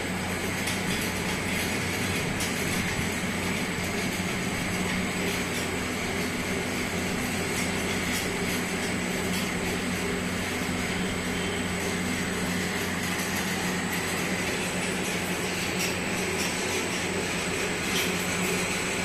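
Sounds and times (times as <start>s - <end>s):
factory machinery drone: 0.0s - 19.0s
low electrical hum: 0.0s - 19.0s.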